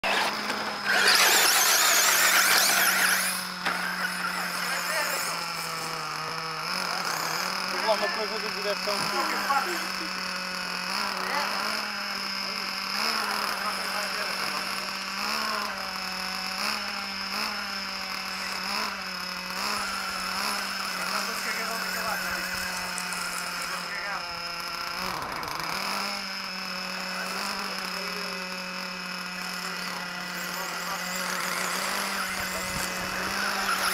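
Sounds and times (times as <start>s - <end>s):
engine humming: 0.0s - 33.9s
toy car motor whining: 0.0s - 33.9s.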